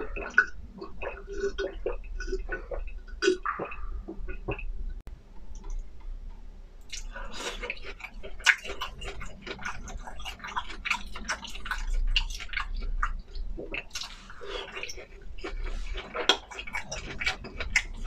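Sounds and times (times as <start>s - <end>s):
wet chewing and lip-smacking: 0.0s - 4.7s, 6.8s - 18.0s.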